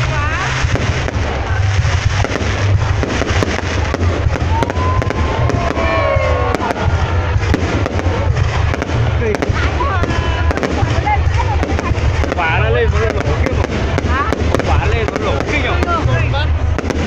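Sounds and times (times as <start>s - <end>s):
fireworks crackling and popping: 0.0s - 17.0s
low rumble: 0.0s - 17.0s
whistling fireworks: 0.0s - 17.0s.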